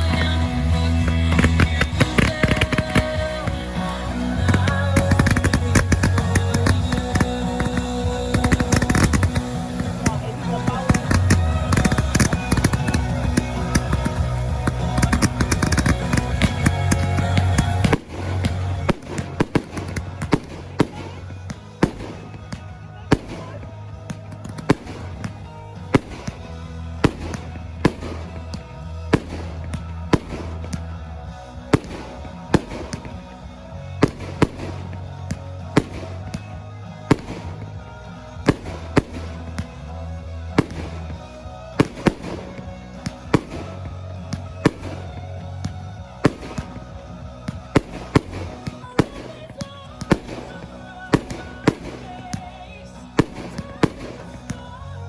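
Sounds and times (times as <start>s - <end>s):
instrumental song with low notes: 0.0s - 55.0s
fireworks bursting in sharp bangs: 1.1s - 30.9s, 31.7s - 33.4s, 34.0s - 39.7s, 40.5s - 54.8s.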